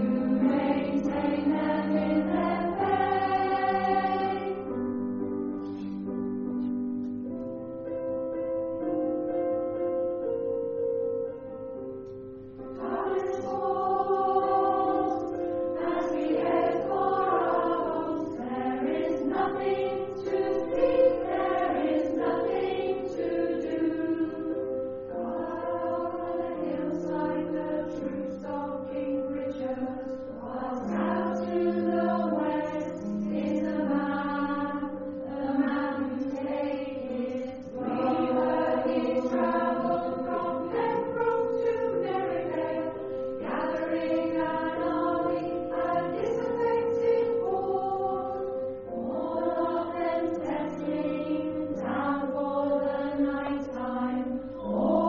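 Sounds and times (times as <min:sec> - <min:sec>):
choir singing: 0:00.0 - 0:05.1, 0:12.7 - 0:55.0.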